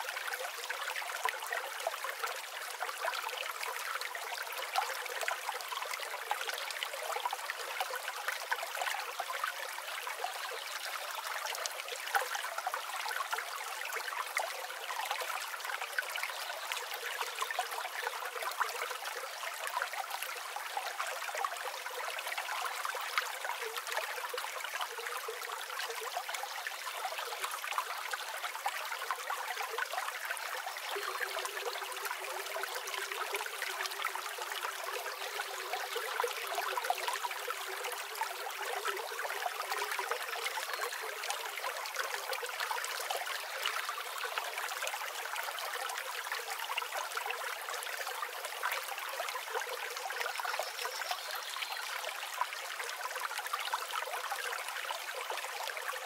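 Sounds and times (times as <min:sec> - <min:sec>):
water pouring into a pond: 0:00.0 - 0:56.0.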